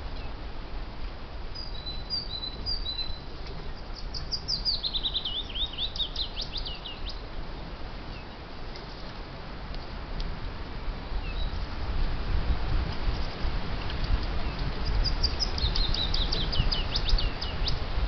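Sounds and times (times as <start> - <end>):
songbird singing: 0.0 - 0.5, 1.4 - 10.0, 10.6 - 11.8, 12.8 - 18.0
steady background noise: 0.0 - 18.0.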